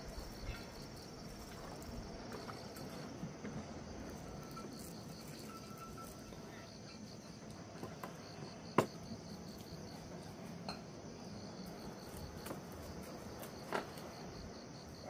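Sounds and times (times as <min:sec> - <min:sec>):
constant high hiss: 0:00.0 - 0:15.0
insects chirping: 0:00.0 - 0:15.0.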